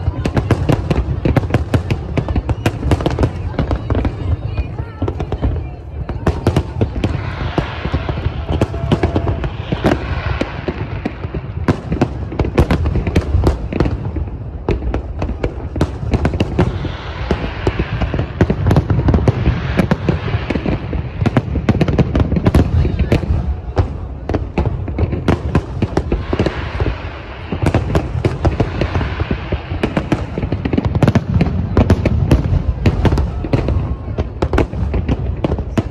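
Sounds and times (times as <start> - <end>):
fireworks bursting with crackles: 0.0 - 35.9.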